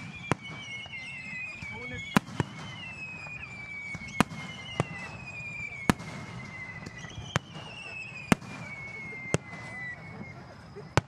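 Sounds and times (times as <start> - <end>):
fireworks bangs: 0.0 - 11.0
high whistling tones sliding down: 0.0 - 11.0.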